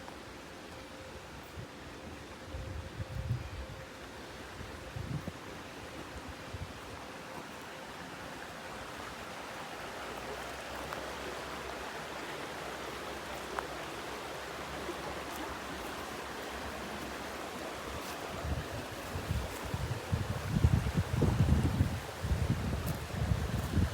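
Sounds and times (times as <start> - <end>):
flowing water rushing: 3.8 - 23.9.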